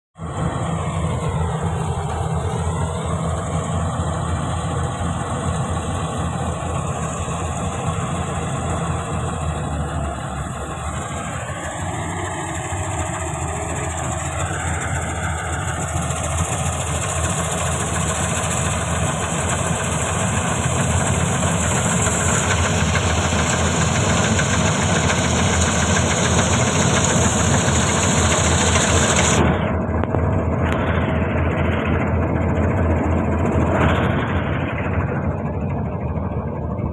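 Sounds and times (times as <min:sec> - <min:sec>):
combine harvester engine running: 0:00.2 - 0:36.9.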